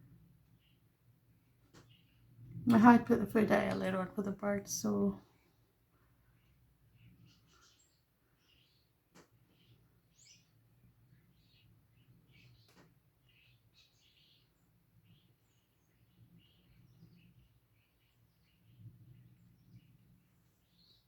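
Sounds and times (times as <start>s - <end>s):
small birds chirping: 1.6s - 5.2s, 6.0s - 21.0s.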